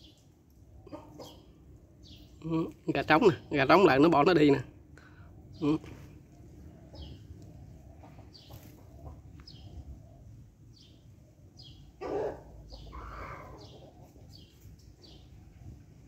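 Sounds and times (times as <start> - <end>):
bird chirping: 0.9 - 4.6, 5.4 - 15.6.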